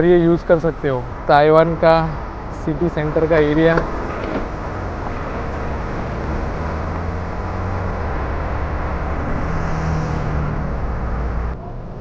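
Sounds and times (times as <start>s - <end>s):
road noise: 0.0s - 12.0s
vehicle engines droning: 0.0s - 12.0s.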